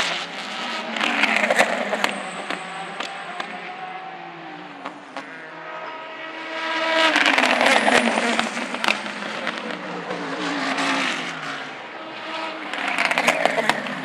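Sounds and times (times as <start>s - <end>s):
race cars passing: 0.0s - 14.0s.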